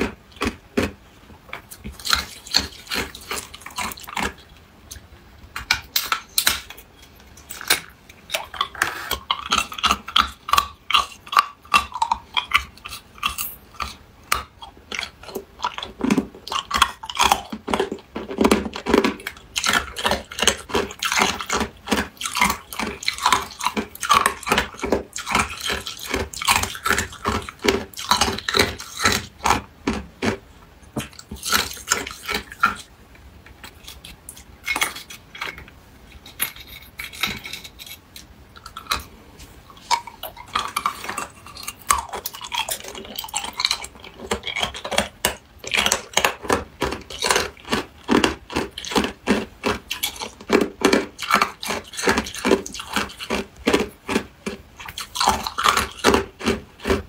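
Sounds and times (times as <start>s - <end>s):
ice cubes being chewed: 0.0s - 5.0s, 5.6s - 32.9s, 33.6s - 57.0s.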